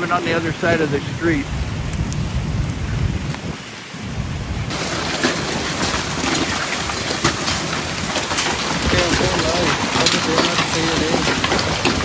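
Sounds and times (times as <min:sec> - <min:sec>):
raindrops tapping hard surface: 0:00.0 - 0:03.6, 0:04.7 - 0:12.0
heavy rain: 0:00.0 - 0:12.0
low thunder rumble: 0:00.0 - 0:12.0.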